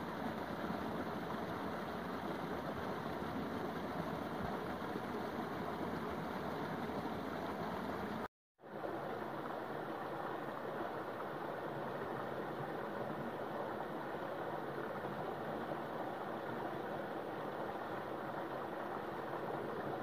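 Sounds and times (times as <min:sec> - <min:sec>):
water rushing over rocks: 0:00.0 - 0:20.0.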